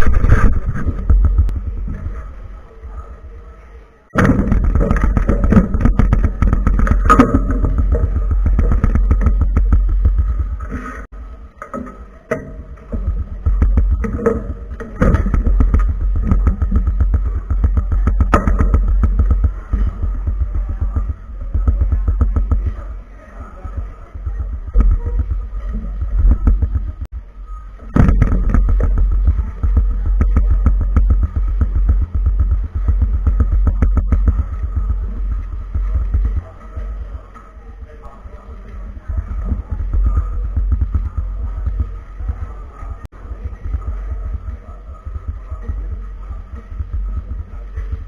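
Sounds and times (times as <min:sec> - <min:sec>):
low handling rumble: 0:00.0 - 0:03.4, 0:04.1 - 0:48.0.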